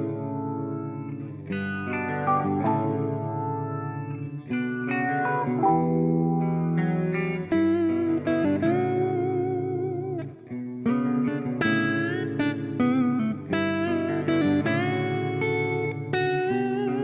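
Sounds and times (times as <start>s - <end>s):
guitar with vibrato: 0.0s - 17.0s.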